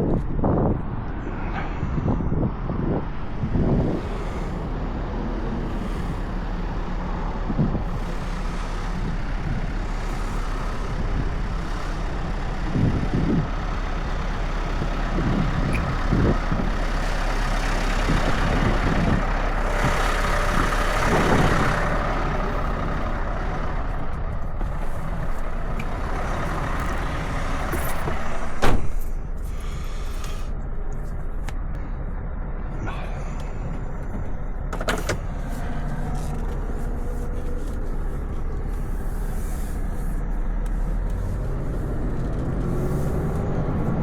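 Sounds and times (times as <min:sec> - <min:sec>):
truck engine and road noise: 0:00.0 - 0:44.0.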